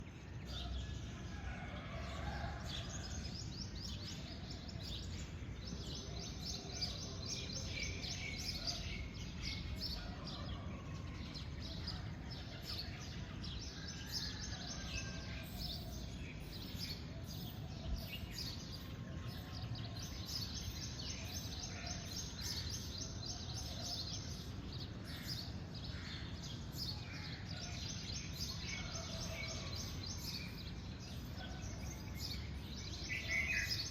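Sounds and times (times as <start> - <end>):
small birds chirping and trilling: 0.0 - 33.9.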